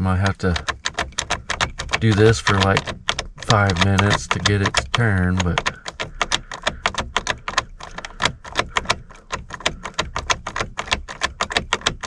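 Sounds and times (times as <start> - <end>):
key rattling in ignition lock: 0.0 - 12.0.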